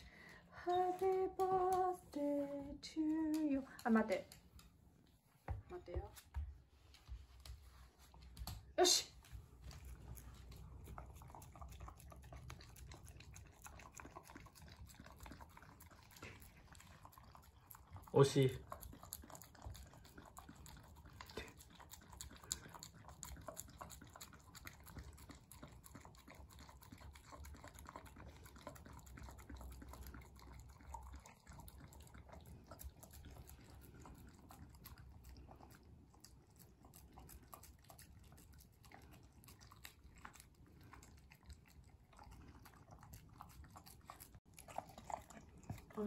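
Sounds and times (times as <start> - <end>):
dog licking and chewing food: 0.0 - 46.0.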